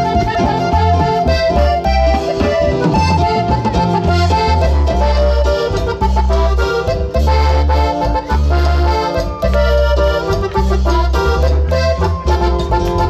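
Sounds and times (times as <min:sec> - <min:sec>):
accordion melody: 0:00.0 - 0:13.0
heavy bass line: 0:00.0 - 0:13.0
latin dance band music: 0:00.0 - 0:13.0.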